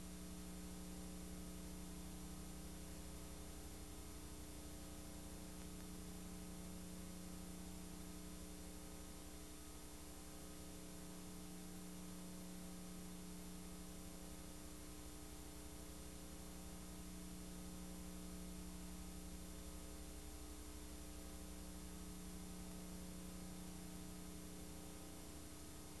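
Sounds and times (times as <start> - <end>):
electrical mains hum: 0.0 - 26.0
faint hiss: 0.0 - 26.0.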